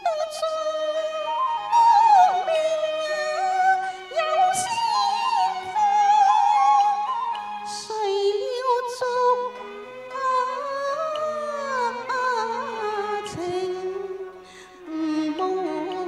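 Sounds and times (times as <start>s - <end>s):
instrumental accompaniment: 0.0s - 16.0s
woman singing ornamented melody: 0.0s - 16.0s.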